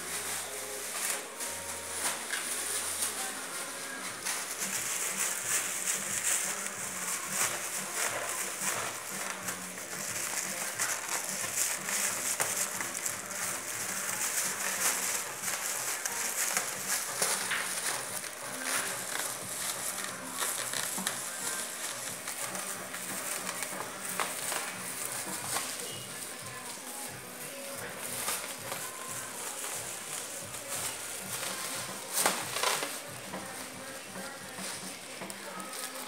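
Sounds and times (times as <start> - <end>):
plastic bag crinkling: 0.0 - 36.0.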